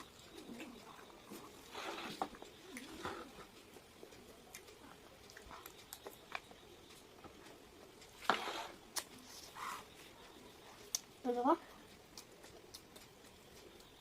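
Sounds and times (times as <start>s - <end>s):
chewing and handling food: 0.0s - 14.0s.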